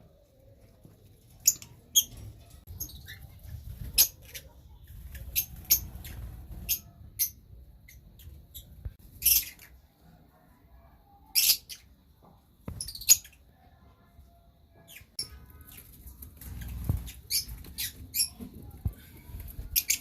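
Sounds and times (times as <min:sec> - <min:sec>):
lovebirds chirping: 0:00.0 - 0:10.0, 0:11.2 - 0:20.0.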